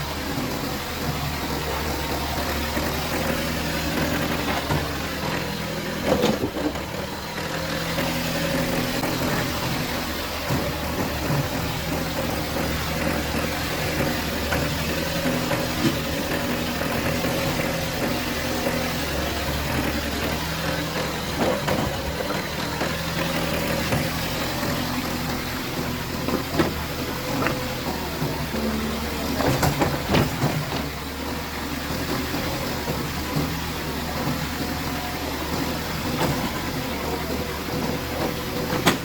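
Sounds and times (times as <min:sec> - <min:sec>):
excavator diesel engine idling: 0:00.0 - 0:39.0.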